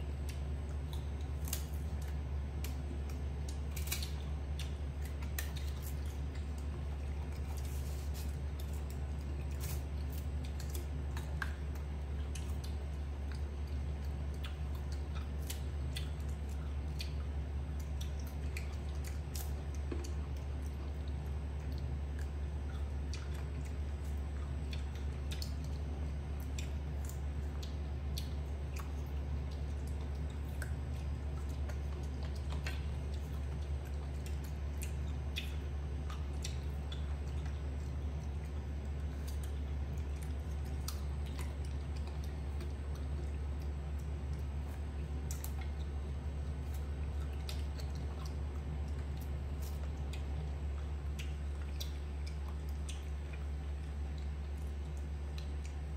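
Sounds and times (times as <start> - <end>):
monkey chewing fruit: 0.0 - 55.9.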